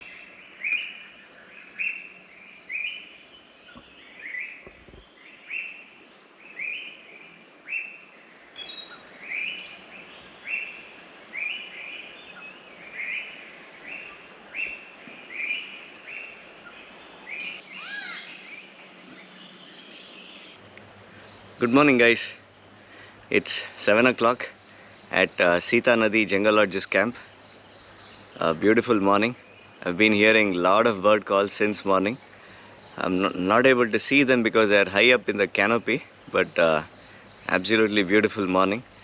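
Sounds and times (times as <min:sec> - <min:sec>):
bird calling: 0:00.0 - 0:39.0
faint calls of other birds: 0:00.0 - 0:39.0.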